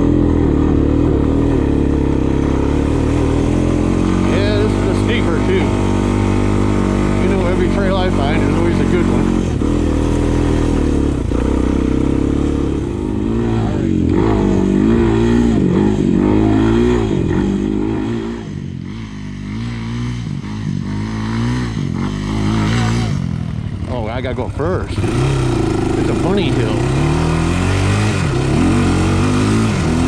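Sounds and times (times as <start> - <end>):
quad engine revving: 0.0 - 30.0.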